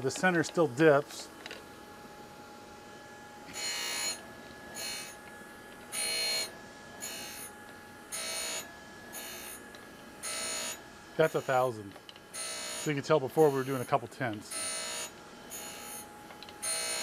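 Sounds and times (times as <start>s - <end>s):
spindle hum: 0.0s - 17.0s.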